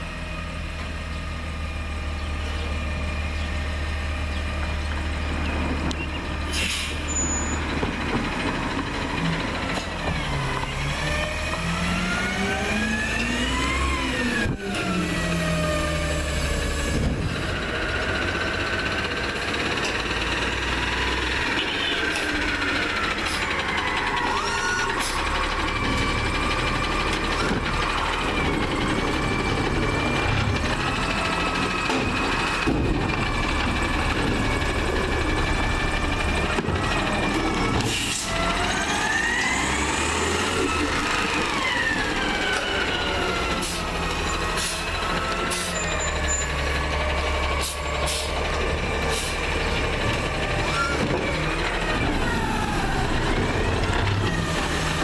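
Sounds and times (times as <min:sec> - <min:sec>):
garbage truck engine: 0:00.0 - 0:55.0.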